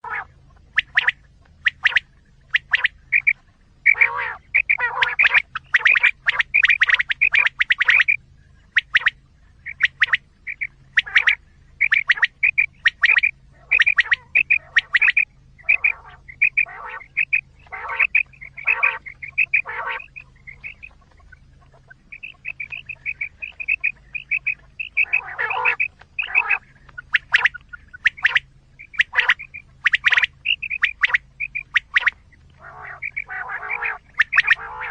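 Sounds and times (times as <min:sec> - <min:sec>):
faint low hum: 0:00.0 - 0:34.9
quail calls: 0:00.0 - 0:34.9.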